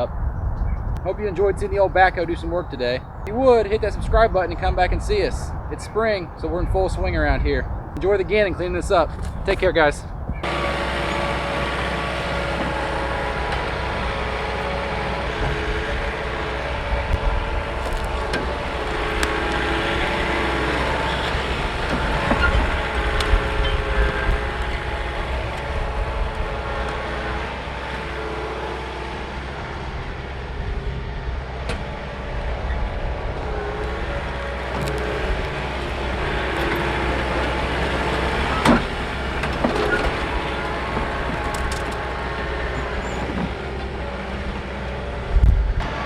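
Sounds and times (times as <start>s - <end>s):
tractor diesel engine working: 0.0s - 46.0s.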